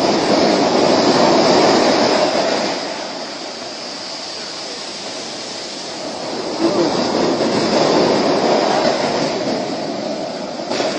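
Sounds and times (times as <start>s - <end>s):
sea surf washing on beach: 0.0s - 10.9s
wave breaking: 0.0s - 10.9s.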